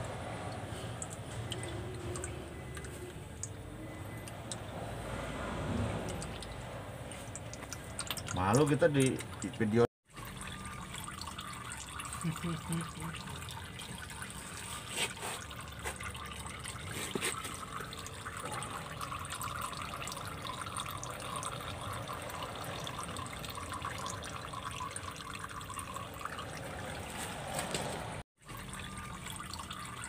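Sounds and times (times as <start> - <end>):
oil trickling into metal pan: 0.0 - 27.5, 28.4 - 30.0.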